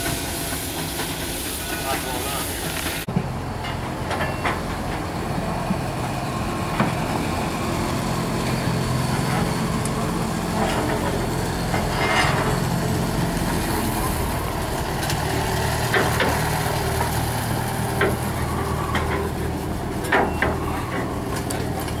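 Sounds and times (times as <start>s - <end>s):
engine idling: 3.0s - 22.0s.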